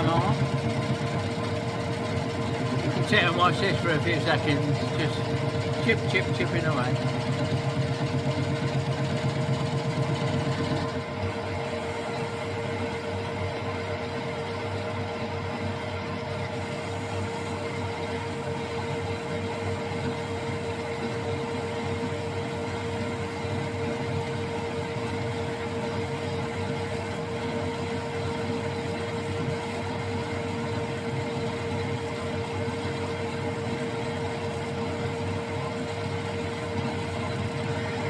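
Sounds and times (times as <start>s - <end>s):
metal lathe motor whine: 0.0s - 38.0s.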